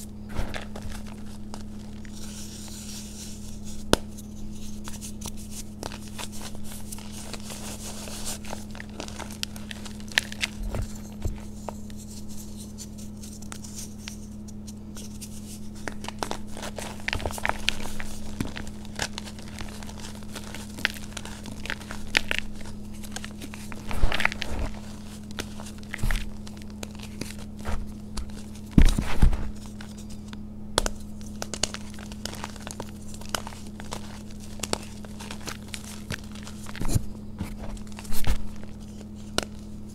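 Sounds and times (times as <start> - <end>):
chalk crackling and crumbling: 0.3 - 39.9
chalk crunches: 0.3 - 39.9.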